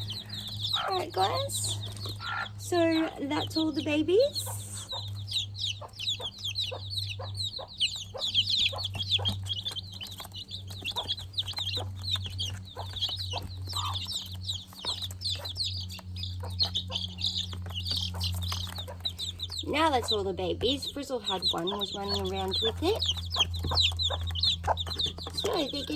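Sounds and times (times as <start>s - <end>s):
chicks peeping: 0.0s - 25.9s
steady low hum: 0.0s - 25.9s.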